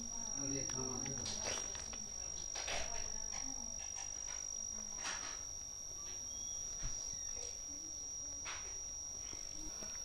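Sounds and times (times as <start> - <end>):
thin high-pitched whine: 0.0 - 10.0.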